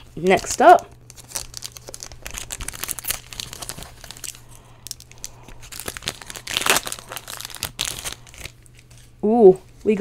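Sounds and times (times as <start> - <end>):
foil wrapper torn and crinkled: 0.2 - 9.1.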